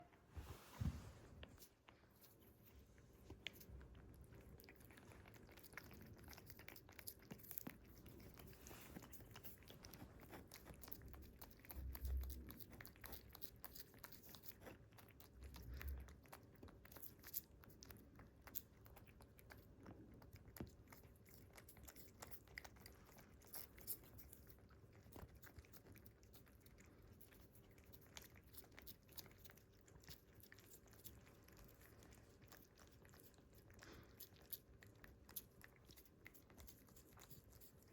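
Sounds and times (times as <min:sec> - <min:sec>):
cats licking: 0:00.8 - 0:37.9.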